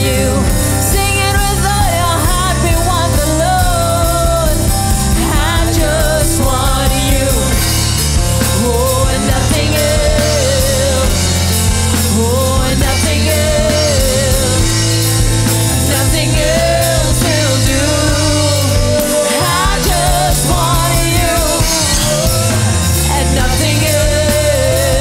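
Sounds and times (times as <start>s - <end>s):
rock worship band music: 0.0s - 25.0s.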